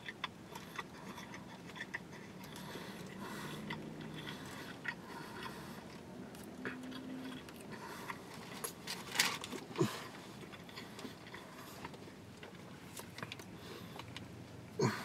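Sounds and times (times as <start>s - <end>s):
person chewing food: 0.0s - 14.3s
closed-mouth hum: 0.0s - 15.0s.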